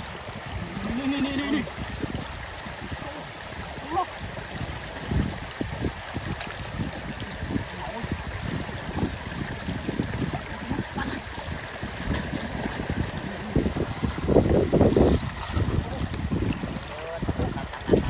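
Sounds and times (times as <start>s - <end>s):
floodwater running over ground: 0.0s - 18.0s
wading splashes: 0.0s - 18.0s.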